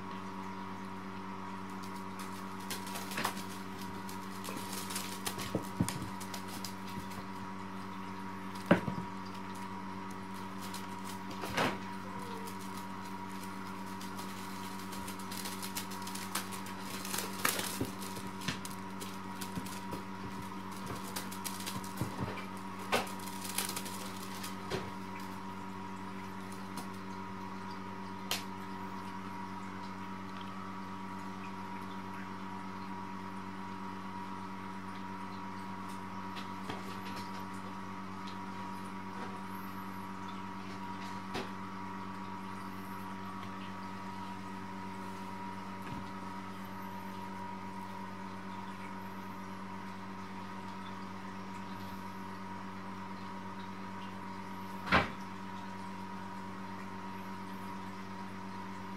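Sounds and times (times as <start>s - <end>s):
mechanical hum: 0.0s - 58.9s.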